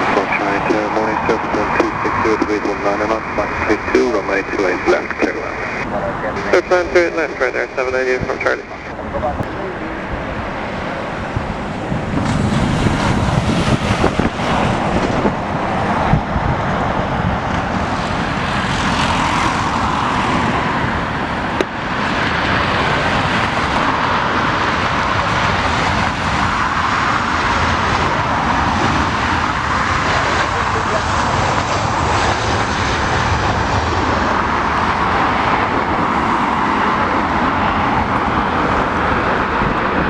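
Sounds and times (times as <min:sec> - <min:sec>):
jet engines roaring: 0:00.0 - 0:40.0
wind buffeting microphone: 0:00.0 - 0:40.0.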